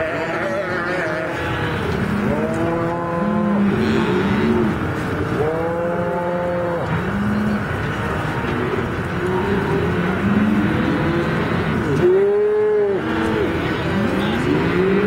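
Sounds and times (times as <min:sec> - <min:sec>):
cattle mooing: 0:00.0 - 0:07.7, 0:08.6 - 0:15.0.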